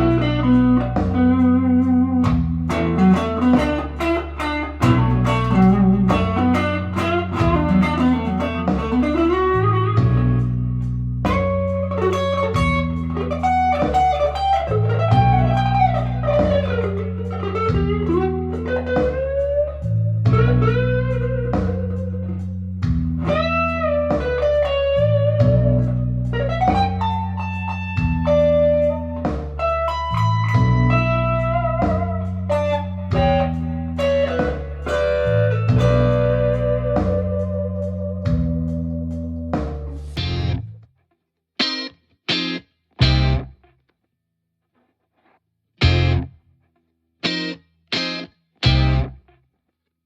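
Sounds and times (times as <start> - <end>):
clean electric guitar lead lines: 0.0 - 40.8, 41.6 - 43.6, 45.8 - 46.4, 47.2 - 49.2
low bass line: 0.0 - 40.8, 43.0 - 43.5, 45.8 - 46.4, 48.7 - 49.2.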